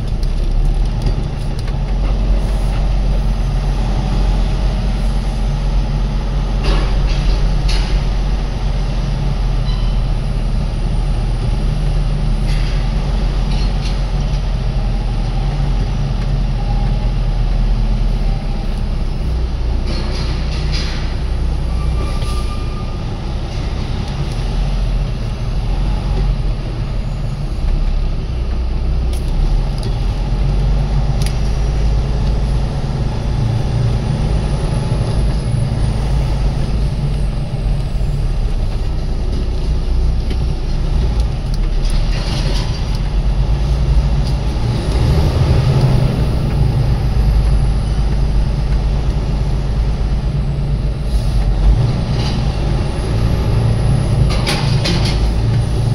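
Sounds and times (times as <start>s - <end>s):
truck diesel engine rumbling: 0.0s - 55.9s.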